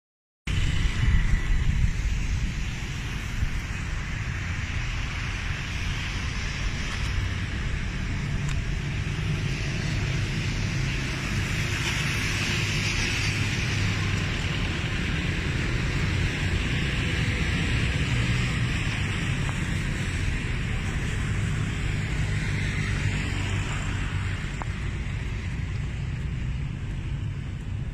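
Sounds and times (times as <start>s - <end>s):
wind or road noise hiss: 0.5s - 27.9s.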